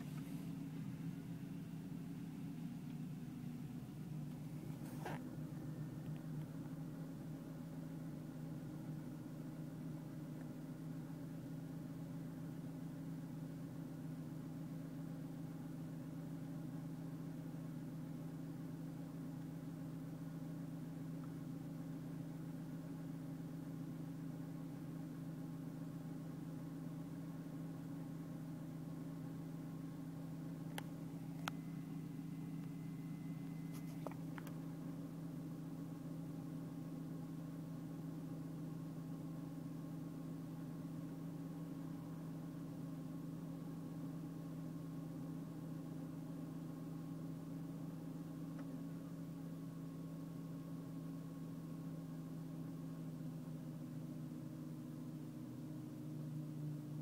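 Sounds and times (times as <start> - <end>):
car engine idling: 0.0 - 49.5.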